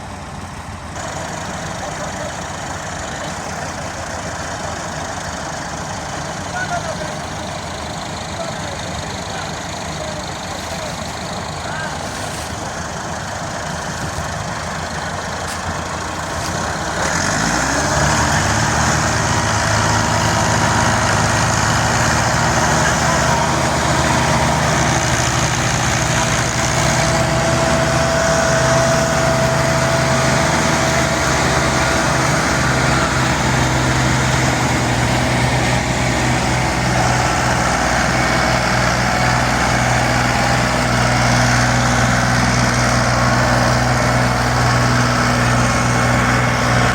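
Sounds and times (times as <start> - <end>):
tractor engine revving: 0.0 - 46.9.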